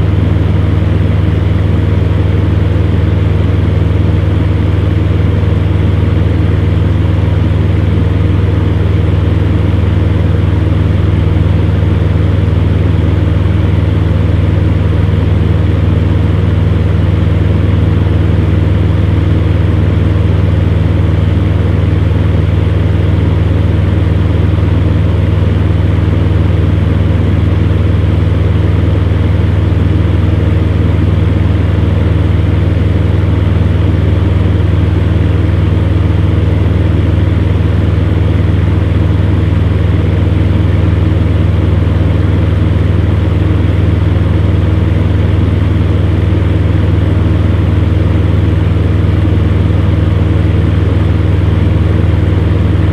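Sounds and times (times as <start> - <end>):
fan heater running: 0.0 - 52.9.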